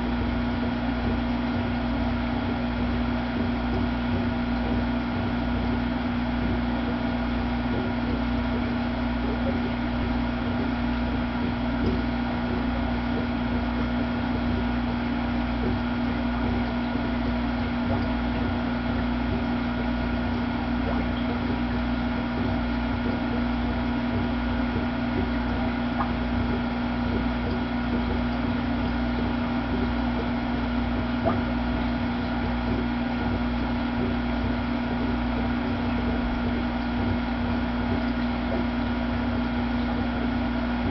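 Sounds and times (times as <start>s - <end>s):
aquarium pump humming: 0.0s - 40.9s.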